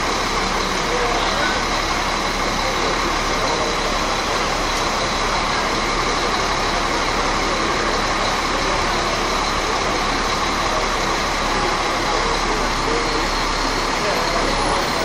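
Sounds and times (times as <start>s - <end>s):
diesel bus engines idling: 0.0s - 15.0s.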